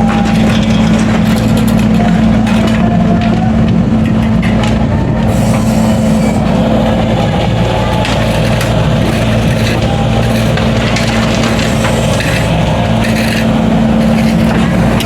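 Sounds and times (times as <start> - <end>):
diesel engine running: 0.0 - 15.0
rough scraping and clattering: 0.0 - 15.0.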